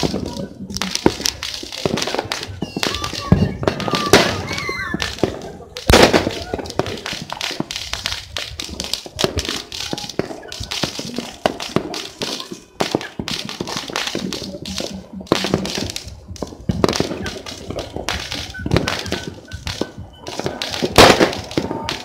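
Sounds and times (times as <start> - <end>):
firecrackers popping and banging: 0.0 - 22.0.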